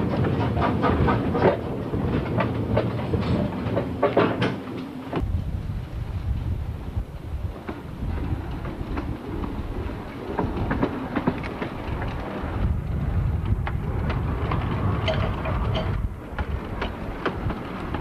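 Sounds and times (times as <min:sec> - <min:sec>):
wheels clicking and clanking on track: 0:00.0 - 0:05.3, 0:07.5 - 0:18.0
steam locomotive rumble: 0:00.0 - 0:18.0.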